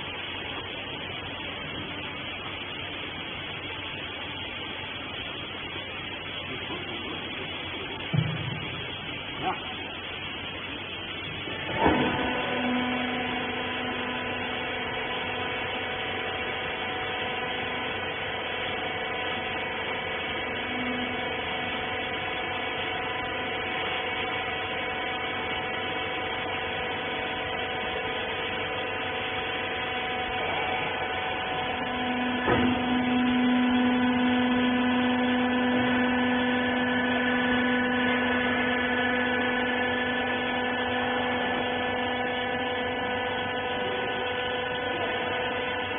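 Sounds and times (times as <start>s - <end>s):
hydraulic power unit humming: 0.0s - 45.9s.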